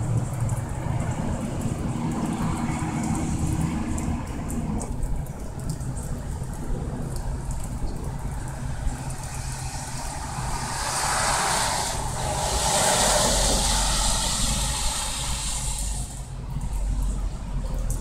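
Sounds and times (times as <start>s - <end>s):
steady rain: 0.0s - 18.0s
tyres hissing on wet road: 0.0s - 18.0s.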